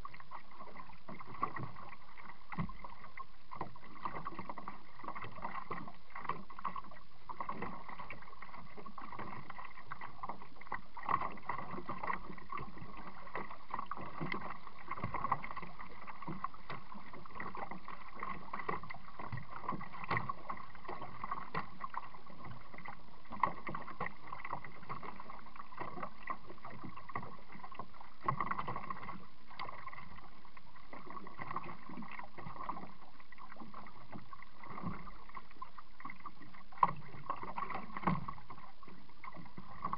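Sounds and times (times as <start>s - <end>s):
muffled water sounds: 0.0s - 39.9s.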